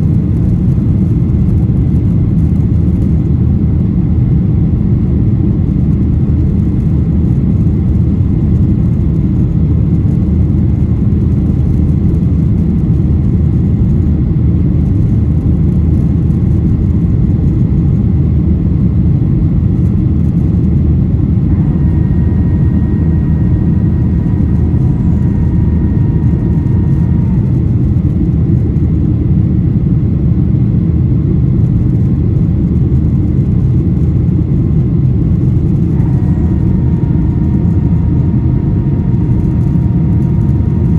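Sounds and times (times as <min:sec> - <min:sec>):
airplane engines rumbling in cabin: 0:00.0 - 0:40.9
faint thin whine: 0:05.6 - 0:30.6, 0:31.7 - 0:40.9.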